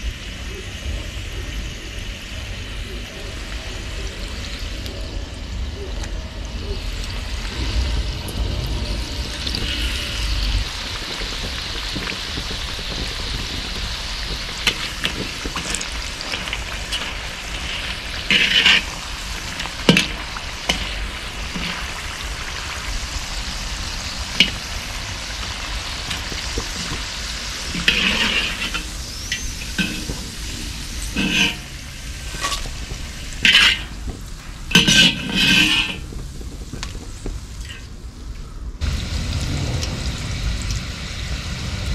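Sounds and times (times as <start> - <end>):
food deep-frying in oil: 0.0 - 41.9.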